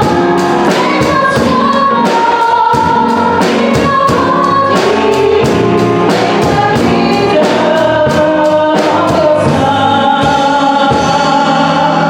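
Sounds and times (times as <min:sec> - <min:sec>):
band playing a steady beat: 0:00.0 - 0:12.0
gospel choir singing: 0:00.0 - 0:12.0.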